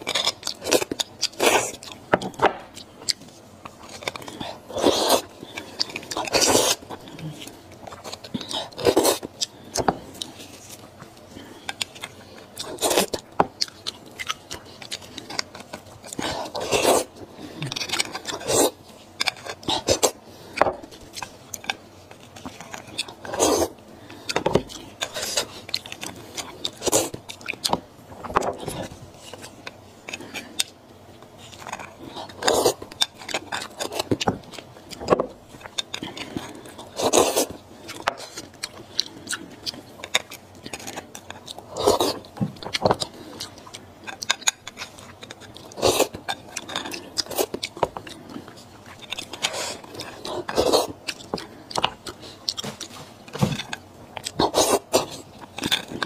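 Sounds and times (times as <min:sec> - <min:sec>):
chewing: 0:00.0 - 0:56.0.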